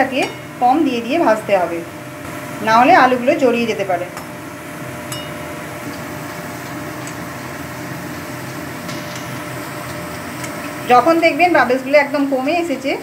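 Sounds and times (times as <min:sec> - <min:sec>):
potato deep-frying in oil: 0:00.0 - 0:13.0.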